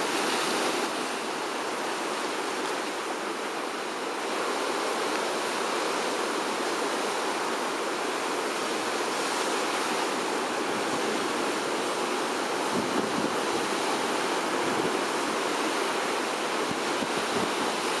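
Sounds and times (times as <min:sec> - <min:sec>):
ocean surf rushing: 0:00.0 - 0:18.0.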